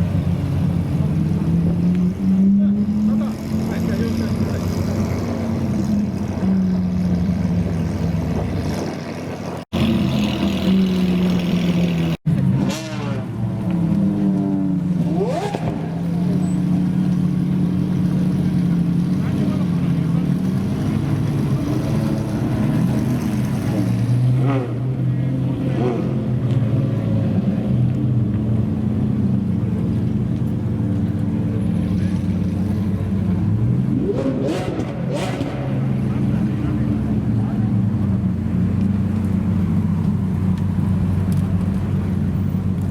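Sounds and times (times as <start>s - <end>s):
car engines idling: 0.0s - 42.9s
car revving sharply: 0.5s - 28.0s, 31.6s - 39.7s.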